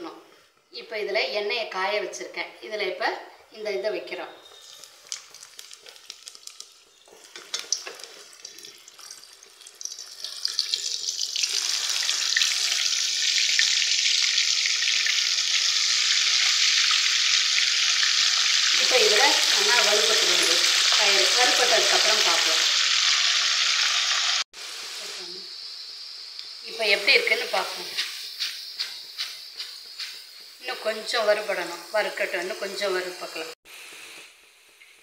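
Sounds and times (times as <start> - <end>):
beans sizzling in hot oil: 4.4 - 35.0.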